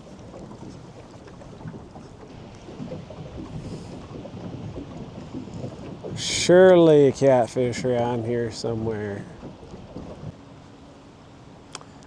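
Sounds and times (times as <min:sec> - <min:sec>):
wind rumbling on microphone: 0:00.0 - 0:10.5.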